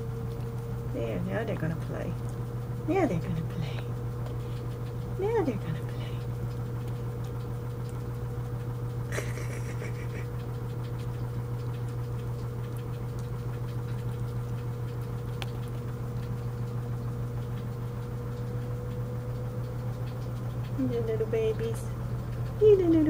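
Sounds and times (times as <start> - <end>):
washing machine hum: 0.0 - 23.0.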